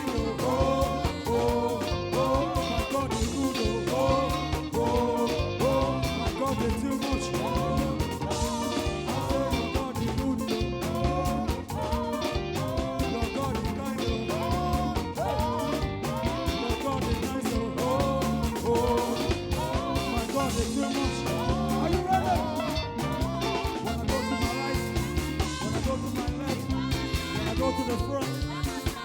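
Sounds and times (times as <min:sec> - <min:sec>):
upbeat gospel band music: 0:00.0 - 0:29.0.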